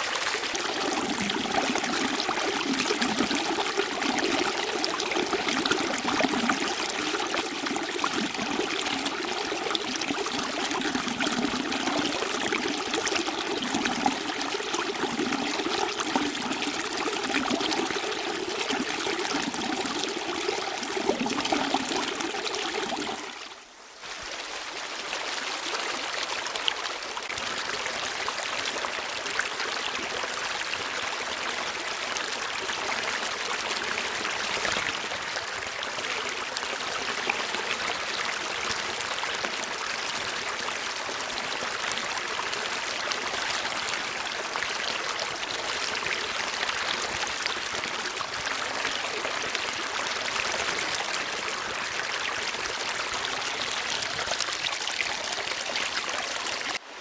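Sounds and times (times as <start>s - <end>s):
stream water trickling: 0.0s - 57.0s.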